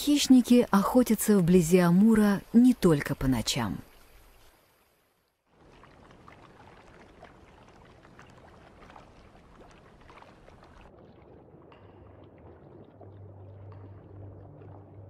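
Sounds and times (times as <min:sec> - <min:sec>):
drips and splashes: 0:00.0 - 0:15.0
river water lapping: 0:00.0 - 0:15.0.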